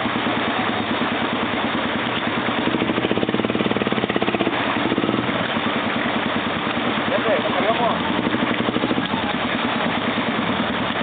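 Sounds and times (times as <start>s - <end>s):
atv engine chugging: 0.0s - 11.0s.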